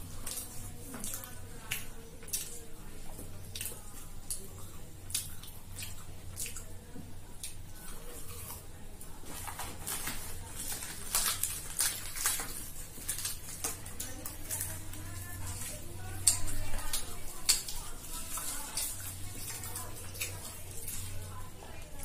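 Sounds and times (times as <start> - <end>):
wet chewing and lip smacks: 0.0 - 8.6, 11.3 - 21.2
low steady hum: 0.0 - 22.0.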